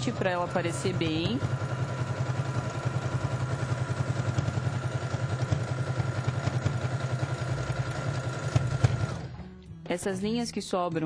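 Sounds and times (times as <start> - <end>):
sewing machine running: 0.0 - 9.4.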